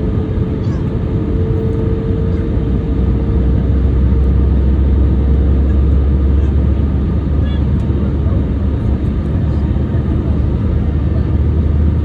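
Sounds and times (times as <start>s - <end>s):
jet cabin rumble: 0.0s - 12.0s.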